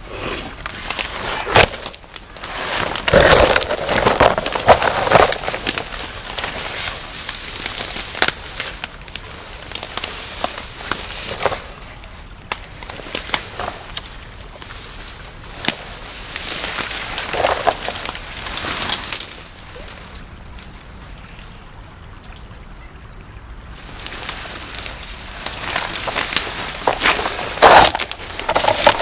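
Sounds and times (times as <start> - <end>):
branches rustling and snapping: 0.5 - 22.4, 23.7 - 29.0.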